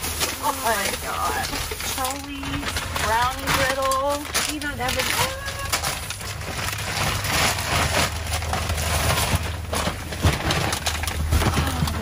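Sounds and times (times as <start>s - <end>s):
plastic bags and cardboard rustling: 0.0s - 12.0s.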